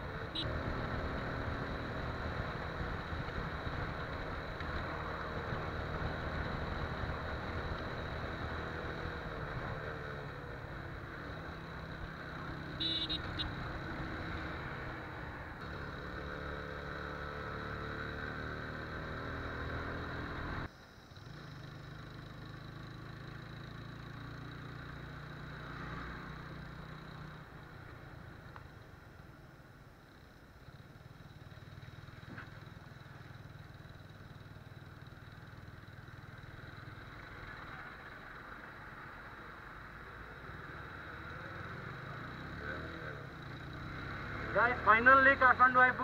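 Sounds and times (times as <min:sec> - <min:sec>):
motorcycle engine droning: 0:00.0 - 0:29.1, 0:30.1 - 0:46.0.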